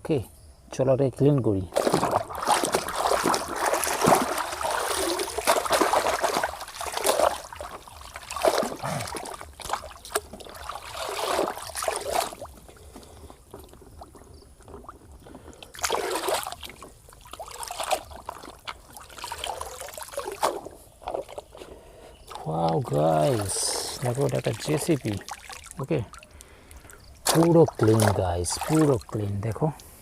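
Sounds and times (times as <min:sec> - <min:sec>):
water splashing and trickling: 0:01.5 - 0:30.0.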